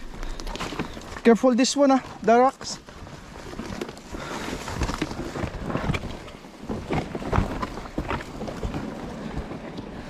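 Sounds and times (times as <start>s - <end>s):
footsteps on loose rock: 0.0s - 9.6s.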